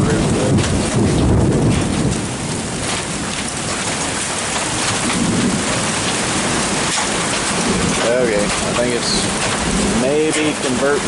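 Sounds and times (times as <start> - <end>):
hail and rain on a roof: 0.0 - 11.0.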